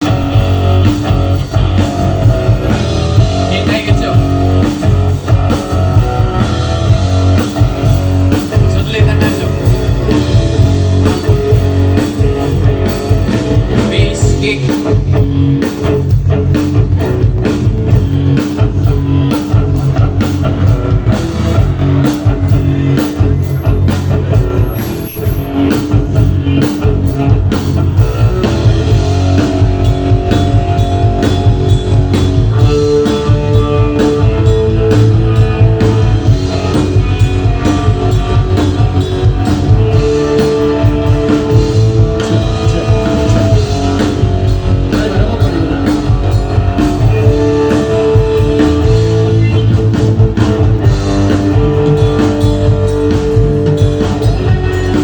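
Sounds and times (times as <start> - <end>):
rock music on guitar and drums: 0.0 - 55.0.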